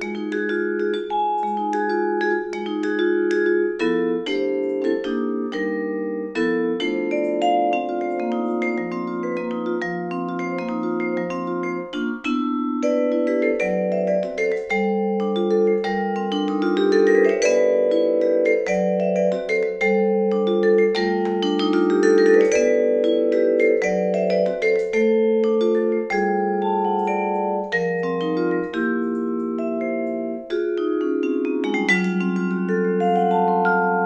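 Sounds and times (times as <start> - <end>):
vibraphone playing chords: 0.0 - 34.0.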